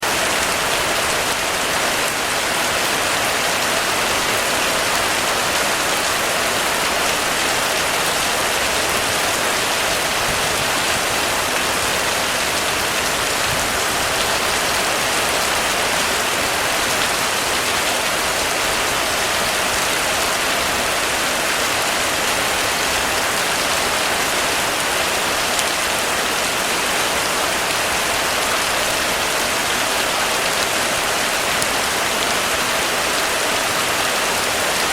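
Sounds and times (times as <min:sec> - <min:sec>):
heavy rain on a roof: 0:00.0 - 0:34.9.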